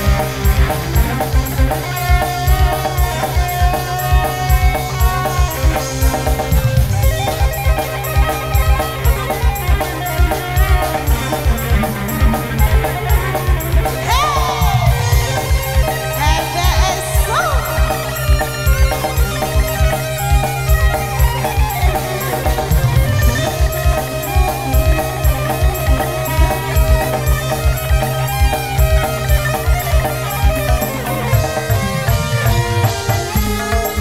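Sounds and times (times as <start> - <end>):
live band music: 0.0 - 34.0.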